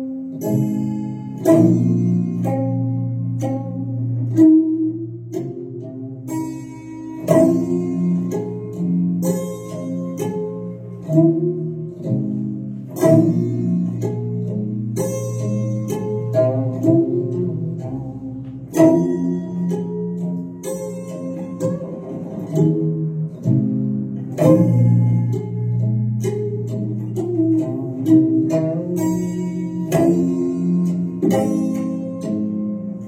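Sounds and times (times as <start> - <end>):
plucked string instrument music: 0.0 - 33.0.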